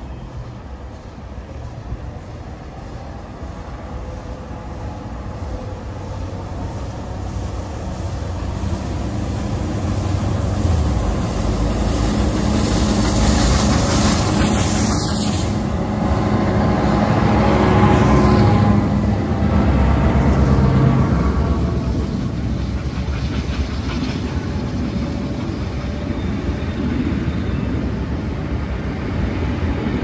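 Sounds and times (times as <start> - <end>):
steam locomotive hauling a train: 0.0 - 30.0.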